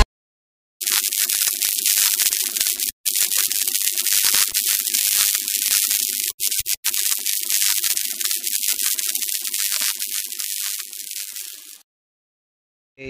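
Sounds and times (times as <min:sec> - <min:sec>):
electric crackling: 0:00.8 - 0:11.8.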